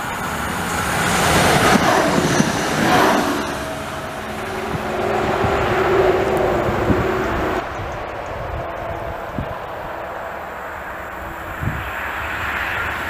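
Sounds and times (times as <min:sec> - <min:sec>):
tram wheel and rail noise: 0:00.0 - 0:13.0.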